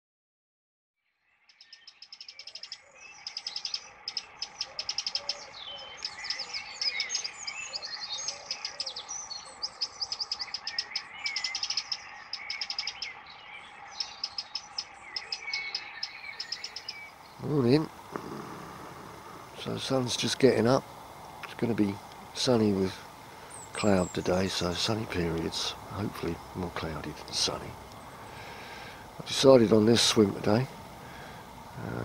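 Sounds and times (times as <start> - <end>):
songbirds trilling and chirping: 1.1 - 32.0.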